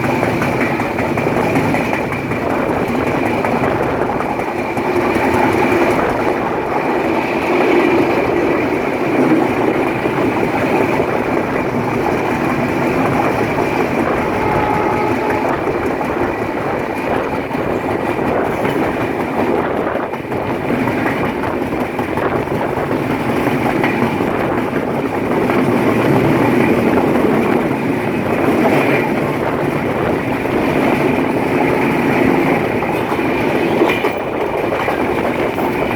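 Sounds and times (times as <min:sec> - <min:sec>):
train rumbling and clattering: 0:00.0 - 0:35.9.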